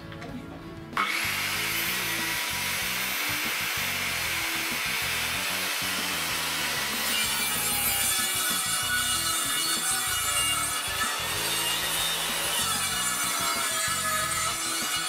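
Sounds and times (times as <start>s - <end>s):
circular saw cutting wood: 1.0s - 15.0s.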